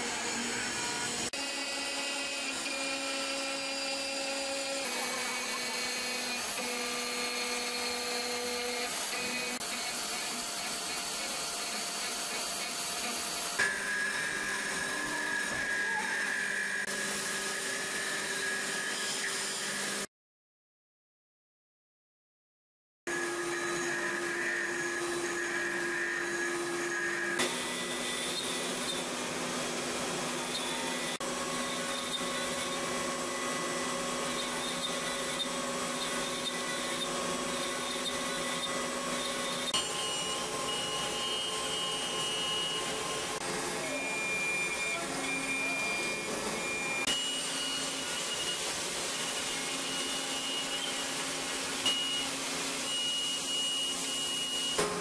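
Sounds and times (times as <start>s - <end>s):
milling machine spindle whine: 0.0s - 20.1s, 23.1s - 55.0s.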